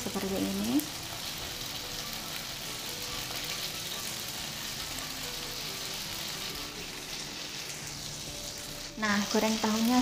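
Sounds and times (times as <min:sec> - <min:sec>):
soft background music: 0:00.0 - 0:10.0
tofu sizzling in oil: 0:00.0 - 0:10.0.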